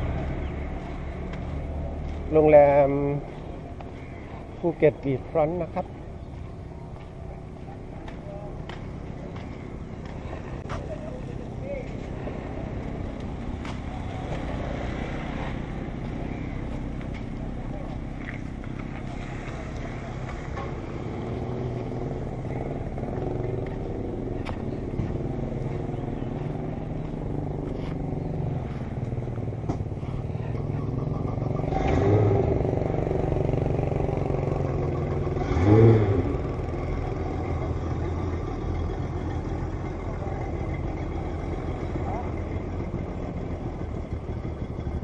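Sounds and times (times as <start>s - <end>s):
vehicles passing: 0.0s - 45.0s
motorcycle engine running: 5.5s - 45.0s.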